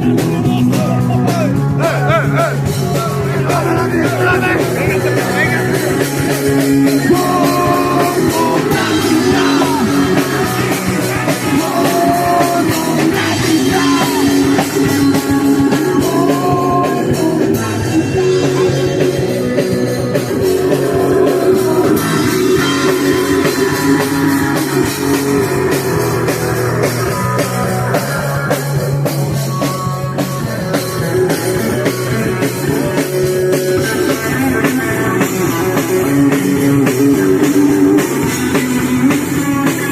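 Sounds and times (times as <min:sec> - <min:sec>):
drum kit pounding: 0:00.0 - 0:39.9
electric guitar: 0:00.0 - 0:39.9
punk rock band playing: 0:00.0 - 0:39.9.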